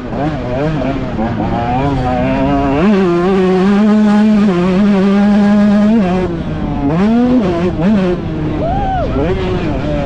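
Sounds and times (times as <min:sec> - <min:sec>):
motocross engine revving: 0:00.0 - 0:10.0.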